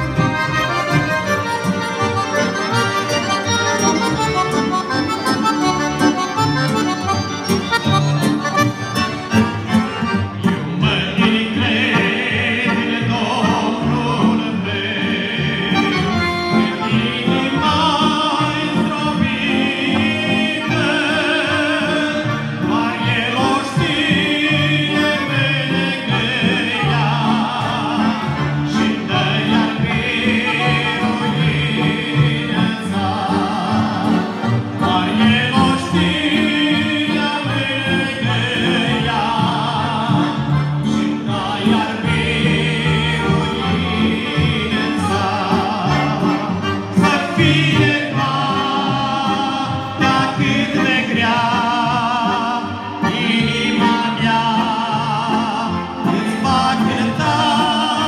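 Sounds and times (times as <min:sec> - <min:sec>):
accordion playing: 0:00.0 - 0:58.0.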